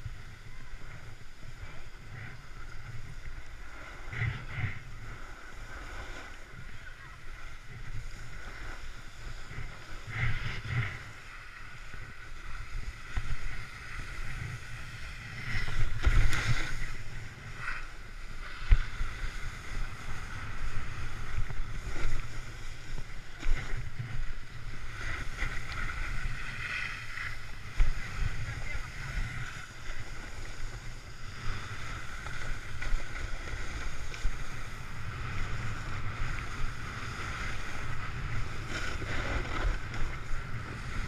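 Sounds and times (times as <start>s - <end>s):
snowboard sliding over snow: 0.0s - 41.0s
wind buffeting microphone: 0.0s - 41.0s.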